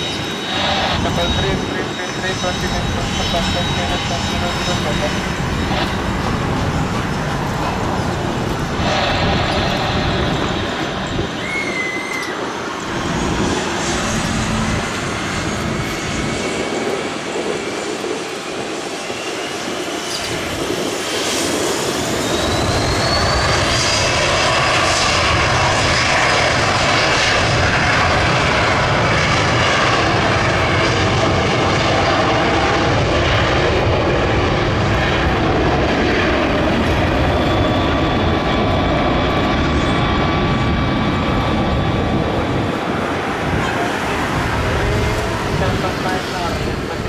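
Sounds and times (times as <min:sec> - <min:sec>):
jet engines spooling up: 0:00.0 - 0:47.0.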